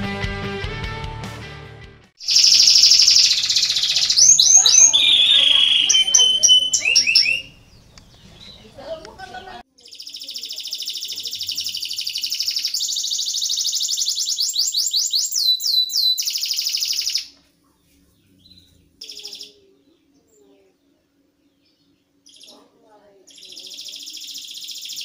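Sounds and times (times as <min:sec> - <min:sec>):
canary singing trill: 0:02.2 - 0:25.0.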